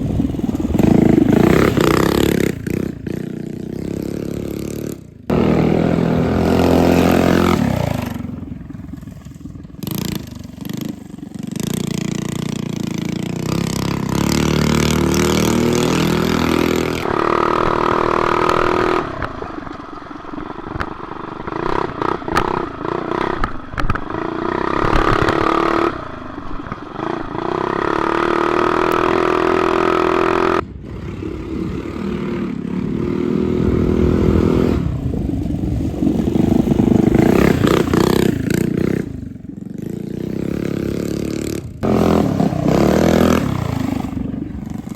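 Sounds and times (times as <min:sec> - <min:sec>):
mini bike engine revving: 0:00.0 - 0:44.9.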